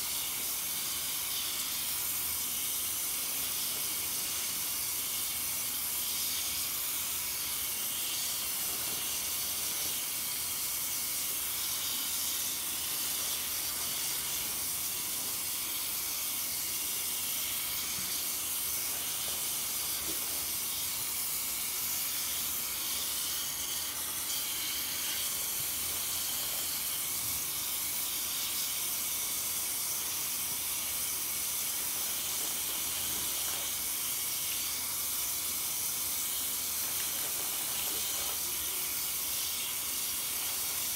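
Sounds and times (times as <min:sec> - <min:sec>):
tap water running into sink: 0:00.1 - 0:40.9.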